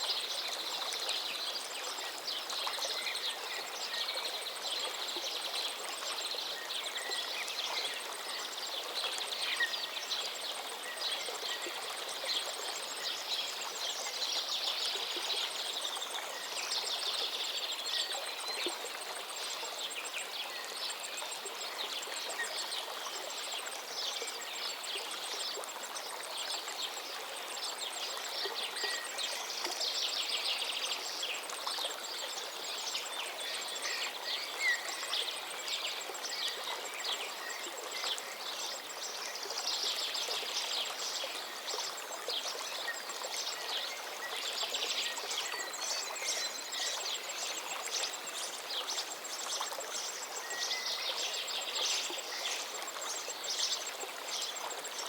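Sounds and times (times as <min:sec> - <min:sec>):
river water running: 0:00.0 - 0:55.0.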